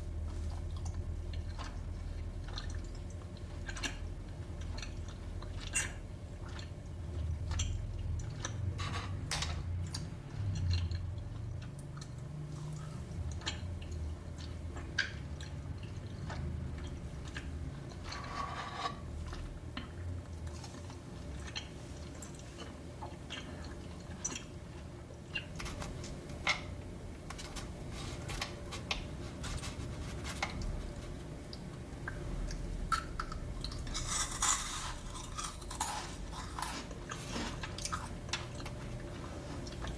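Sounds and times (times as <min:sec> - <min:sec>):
soft chewing: 0:00.0 - 0:39.9.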